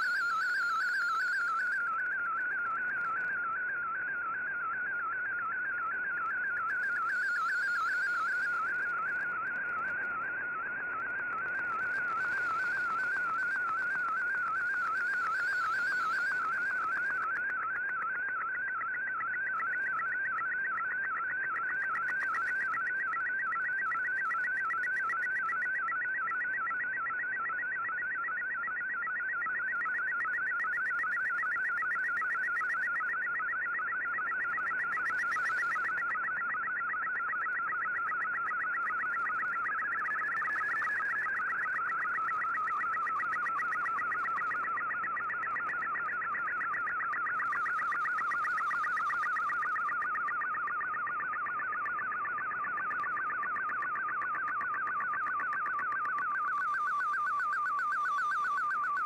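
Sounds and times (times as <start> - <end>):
warbling data tone: 0.0 - 59.0.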